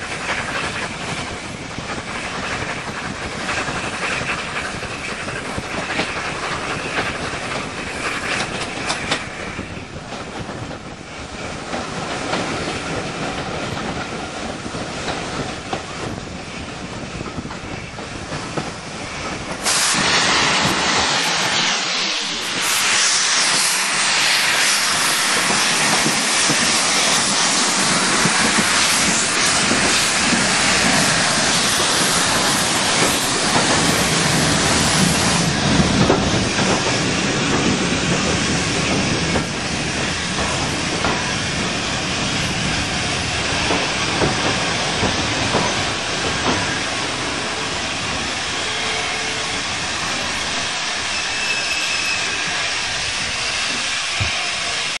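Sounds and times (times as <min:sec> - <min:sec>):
train wheel and rail noise: 0:00.0 - 0:55.0.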